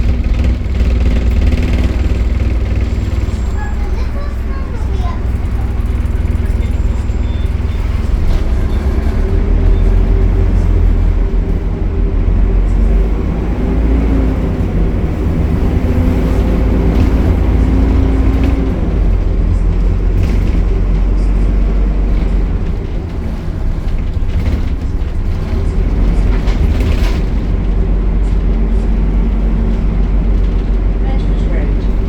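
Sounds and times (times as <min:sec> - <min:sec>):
diesel bus engine drone: 0:00.0 - 0:32.0.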